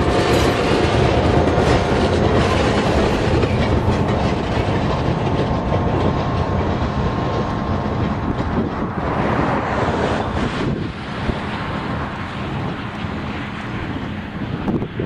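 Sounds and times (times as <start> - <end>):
train rumbling on track: 0.0 - 15.0
wheels clacking: 0.0 - 15.0.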